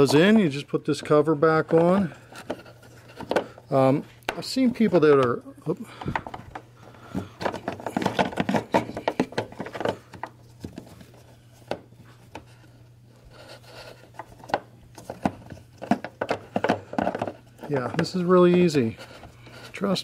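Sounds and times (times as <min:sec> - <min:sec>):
plastic cover rubbing and clicking: 0:00.0 - 0:05.4, 0:06.0 - 0:20.0.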